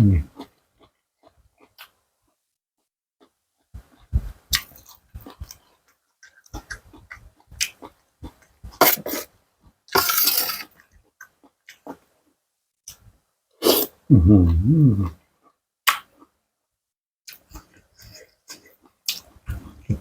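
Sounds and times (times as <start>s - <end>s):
chewing and crunching food: 0.0s - 2.4s, 3.2s - 13.2s, 14.5s - 16.4s, 17.3s - 20.0s.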